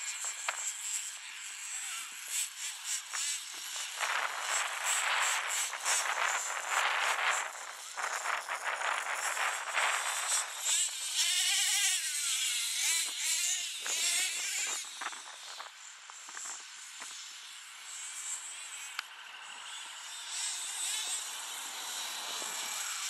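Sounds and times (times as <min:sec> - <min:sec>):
model truck engine revving: 0:00.0 - 0:15.7, 0:16.9 - 0:23.0.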